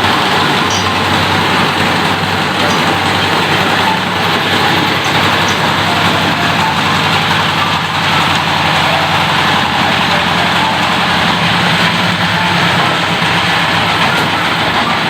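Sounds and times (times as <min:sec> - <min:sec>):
grinding machine drone: 0:00.0 - 0:15.0.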